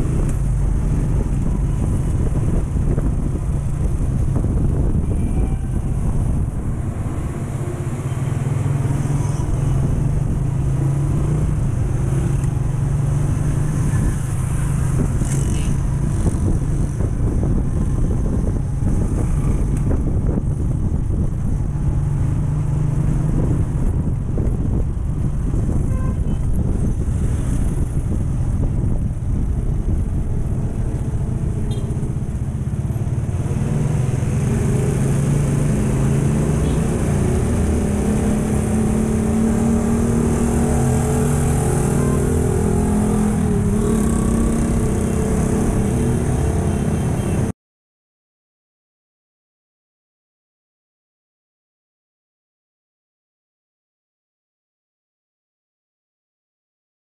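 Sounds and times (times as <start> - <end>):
wind rumbling on microphone: 0.0 - 47.5.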